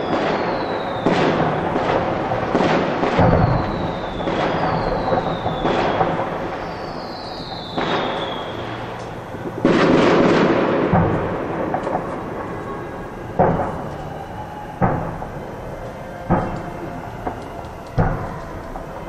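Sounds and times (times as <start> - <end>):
firework whistling: 0.0 - 19.0
fireworks booming and crackling: 0.0 - 19.0.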